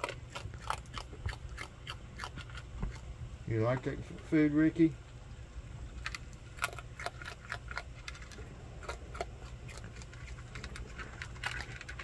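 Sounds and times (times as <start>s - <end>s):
animal crunching kibble: 0.0s - 4.9s, 5.8s - 12.0s.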